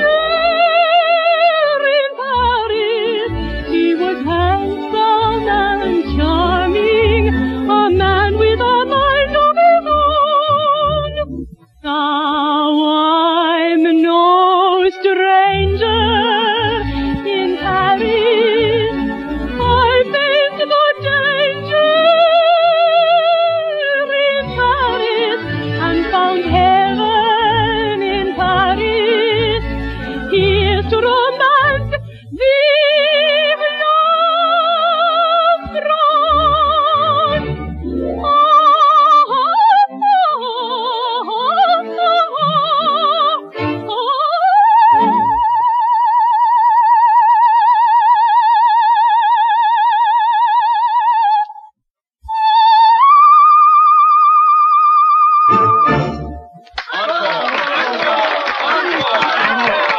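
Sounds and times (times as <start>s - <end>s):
soprano singing with vibrato: 0.0s - 37.5s, 38.1s - 56.2s.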